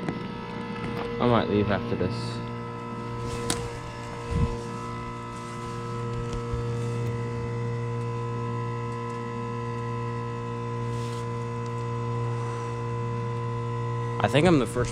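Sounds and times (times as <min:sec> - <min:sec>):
heat pump unit humming: 0:00.0 - 0:14.9.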